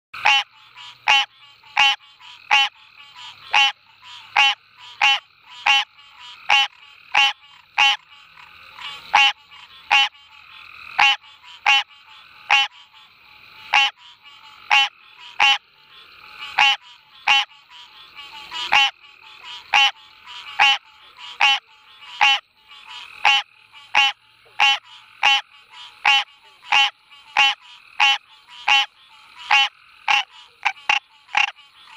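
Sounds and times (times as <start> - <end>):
faint frog chorus: 0.2 - 31.9
treefrog calling: 0.2 - 31.9.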